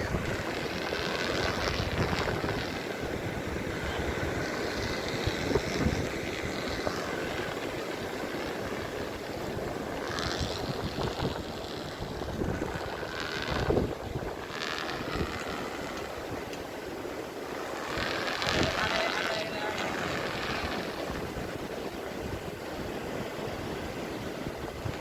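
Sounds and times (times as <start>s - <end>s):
sea surf washing: 0.0s - 25.0s
wind buffeting microphone: 0.0s - 25.0s.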